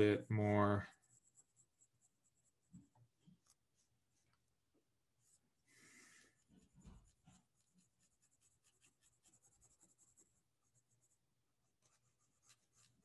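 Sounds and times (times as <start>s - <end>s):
pencil scratching on paper: 0.0s - 4.5s, 5.1s - 13.0s.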